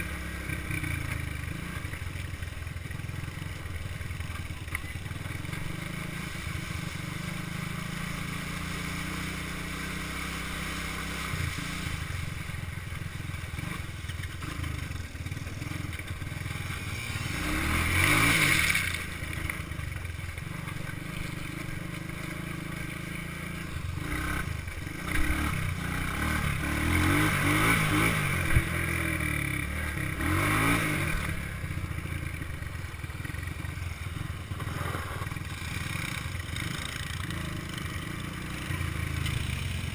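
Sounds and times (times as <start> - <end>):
four-stroke engine revving: 0.0 - 39.9.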